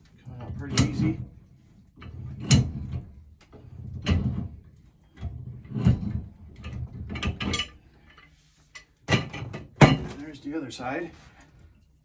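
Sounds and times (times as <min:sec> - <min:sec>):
pipe wrench scraping metal clank: 0:00.2 - 0:10.2.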